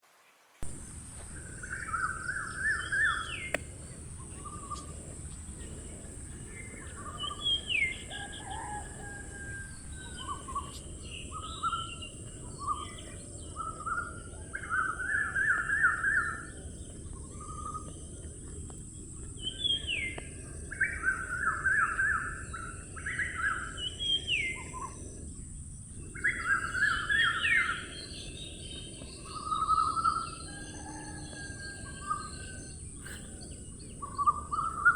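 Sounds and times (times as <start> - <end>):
steady high-pitched hiss: 0.0 - 34.9
songbird singing: 0.6 - 34.9.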